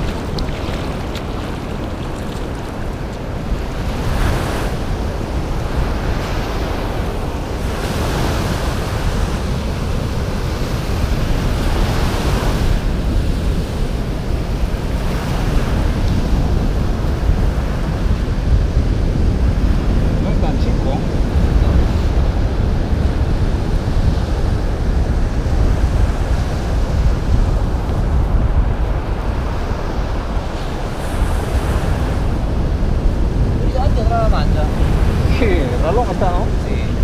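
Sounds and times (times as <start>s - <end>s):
surf washing up a beach: 0.0s - 37.0s
wind buffeting microphone: 0.0s - 37.0s.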